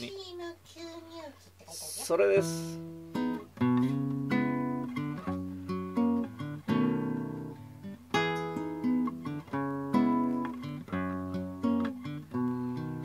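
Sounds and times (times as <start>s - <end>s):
acoustic guitar fingerstyle chords: 0.1s - 13.0s.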